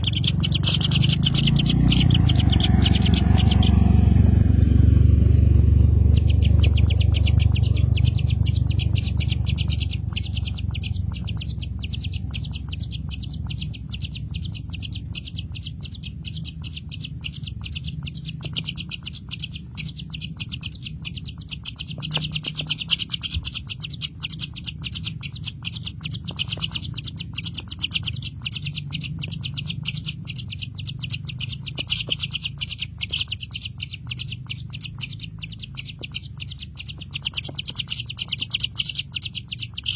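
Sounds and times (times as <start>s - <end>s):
birds chirping rapidly: 0.0s - 39.9s
low rumble: 0.0s - 39.9s.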